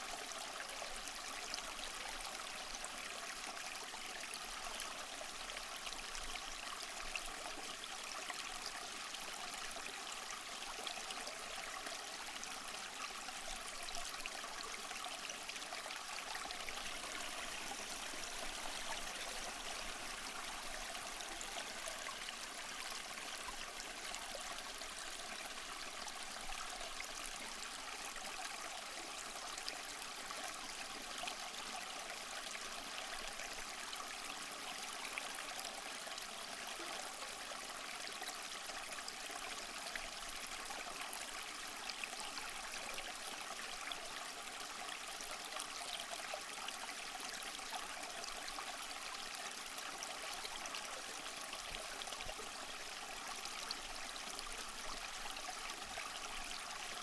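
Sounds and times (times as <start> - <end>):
small waterfall splashing over rocks: 0.0 - 57.0.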